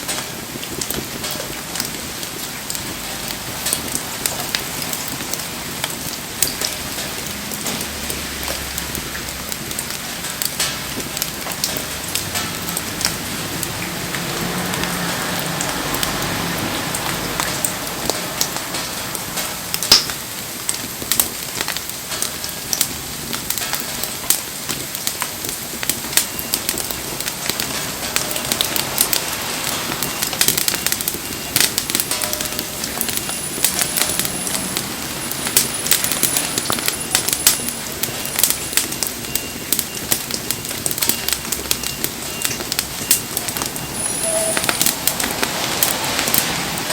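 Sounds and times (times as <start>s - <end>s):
campfire crackling and popping: 0.0s - 46.9s
rain pattering: 0.0s - 46.9s.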